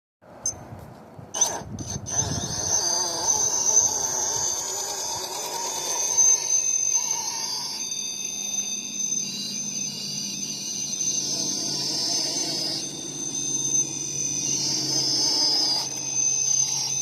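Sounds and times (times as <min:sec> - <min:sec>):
electric motor whining: 0:01.4 - 0:17.0.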